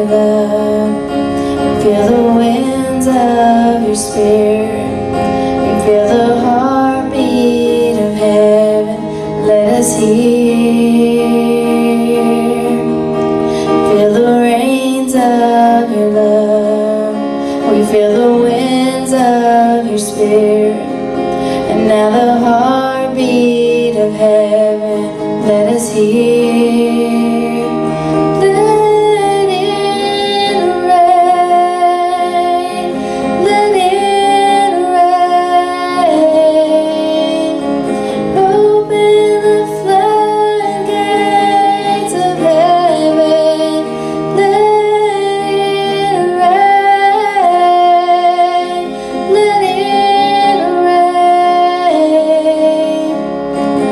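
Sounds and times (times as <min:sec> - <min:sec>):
guitar: 0:00.0 - 0:53.9
woman singing: 0:00.0 - 0:53.9.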